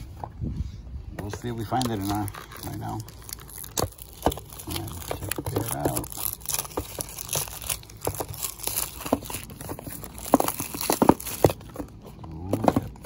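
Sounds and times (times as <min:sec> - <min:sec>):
plastic wrap crinkling and tearing: 0:01.3 - 0:13.0
cardboard box tearing open: 0:01.6 - 0:13.0.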